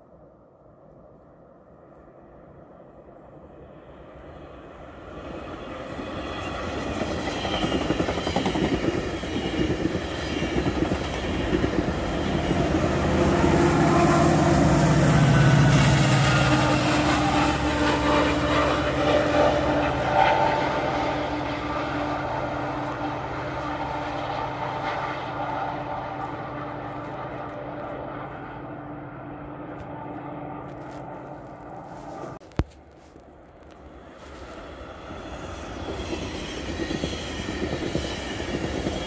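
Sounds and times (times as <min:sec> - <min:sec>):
train wheel and rail noise: 0:00.0 - 0:39.0
diesel locomotive engine: 0:02.5 - 0:32.4, 0:33.8 - 0:39.0.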